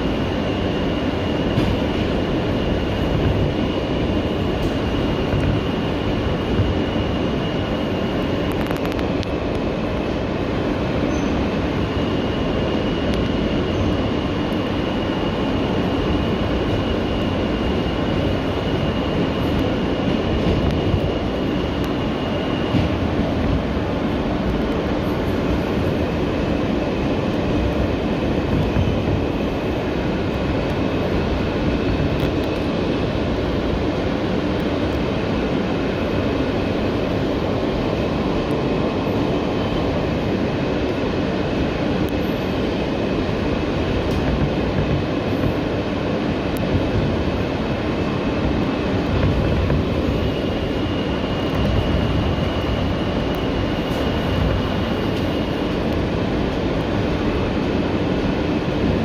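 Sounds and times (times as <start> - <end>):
subway train wheels rumbling: 0.0 - 59.0.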